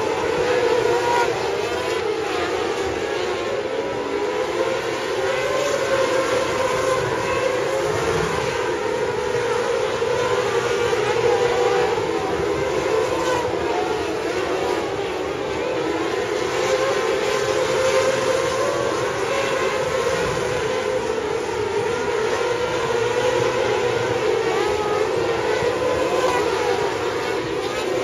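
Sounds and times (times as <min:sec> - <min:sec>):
racing car engines whining: 0:00.0 - 0:28.0.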